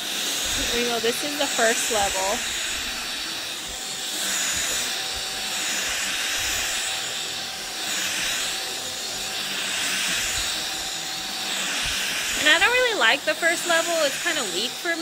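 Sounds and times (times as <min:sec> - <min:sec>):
stick vacuum running on a rug: 0:00.0 - 0:15.0.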